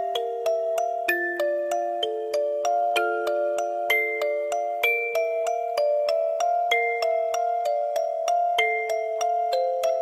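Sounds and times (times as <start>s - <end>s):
gentle melody of struck notes: 0.0s - 10.0s.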